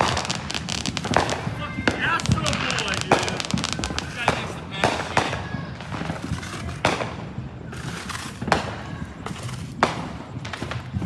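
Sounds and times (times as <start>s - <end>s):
fireworks bangs: 0.0s - 11.0s
low background noise: 0.0s - 11.0s.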